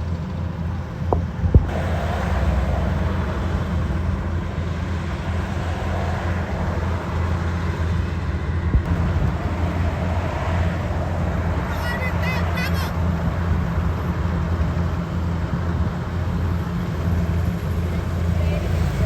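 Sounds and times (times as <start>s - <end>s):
farm machinery engine rumble: 0.0s - 19.0s.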